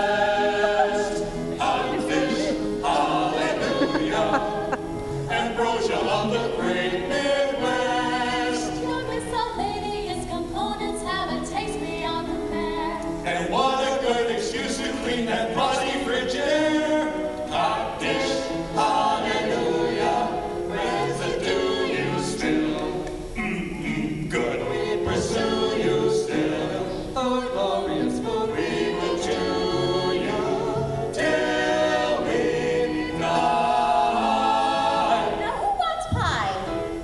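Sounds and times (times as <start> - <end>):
choir singing in harmony: 0.0 - 10.2, 11.4 - 35.8.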